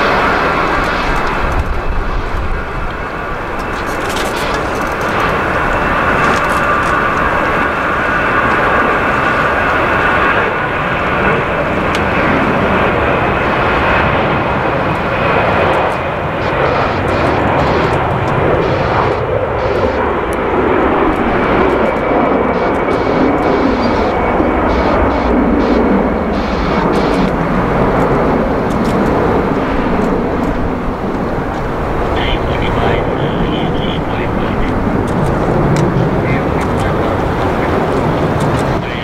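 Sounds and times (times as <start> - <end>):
jet engines running loudly: 0.0 - 39.0.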